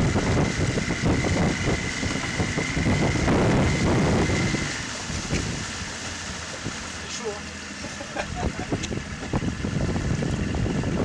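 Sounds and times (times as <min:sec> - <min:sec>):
wind buffeting microphone: 0:00.0 - 0:06.9, 0:08.2 - 0:11.0
water rushing past hull: 0:00.0 - 0:11.0.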